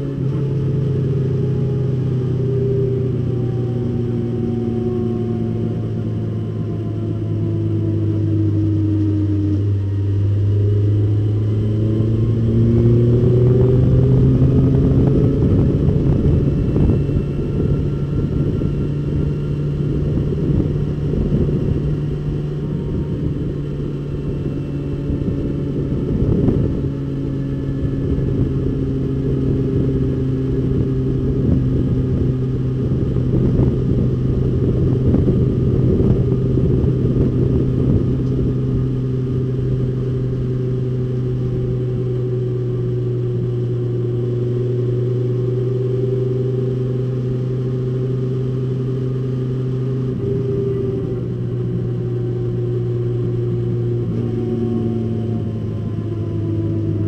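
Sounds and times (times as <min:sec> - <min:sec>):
race car engine under load: 0:00.0 - 0:57.0.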